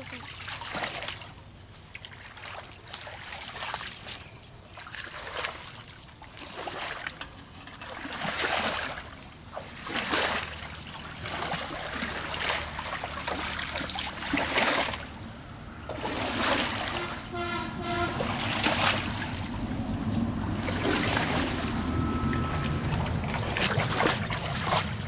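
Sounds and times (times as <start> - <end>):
muddy water splashing and sloshing: 0.0 - 25.0.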